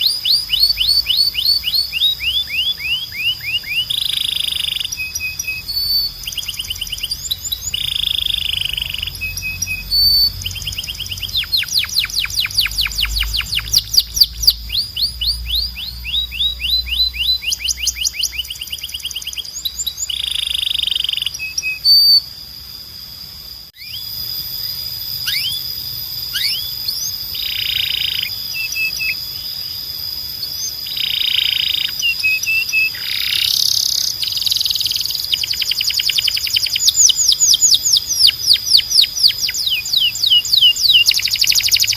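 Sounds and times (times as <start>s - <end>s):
canary singing: 0.0s - 22.3s, 23.8s - 41.9s.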